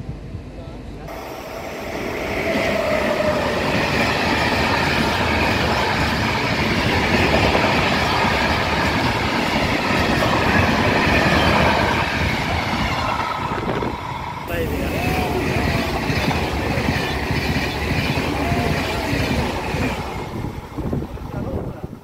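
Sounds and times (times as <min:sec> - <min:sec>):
train wheels rattling on rails: 0:01.1 - 0:22.0.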